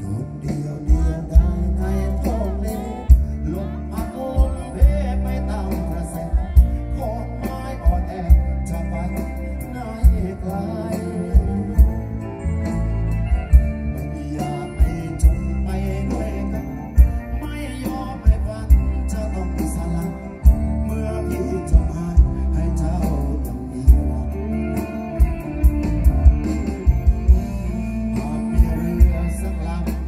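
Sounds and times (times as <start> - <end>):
man singing through pa: 0.0 - 12.8, 13.4 - 25.8, 27.2 - 30.0
acoustic guitar: 0.0 - 30.0
bass: 0.0 - 30.0
steady drum beat: 0.4 - 30.0.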